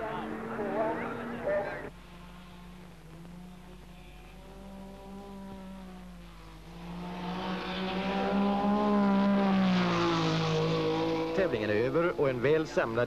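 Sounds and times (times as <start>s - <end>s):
rally car engine at high revs: 0.0s - 12.4s.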